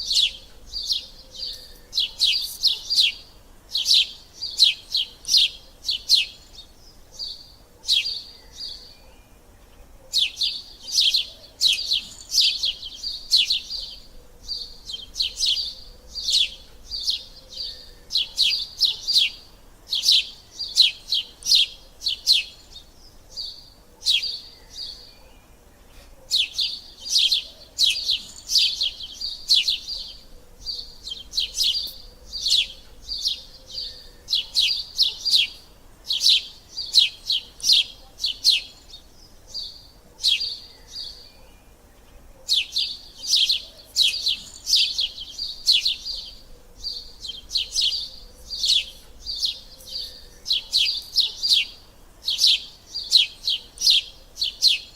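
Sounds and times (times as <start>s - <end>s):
sparrows chirping: 0.0s - 54.9s.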